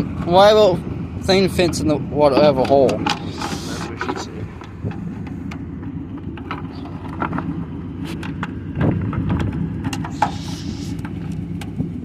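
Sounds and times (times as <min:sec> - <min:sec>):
engine clicks and knocks: 0:00.0 - 0:12.0
pickup truck engine idling: 0:00.0 - 0:12.0.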